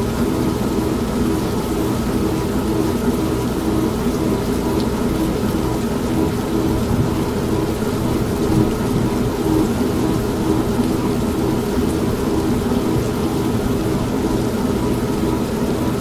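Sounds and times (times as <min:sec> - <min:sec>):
rain: 0:00.0 - 0:16.0
washing machine humming: 0:00.0 - 0:16.0.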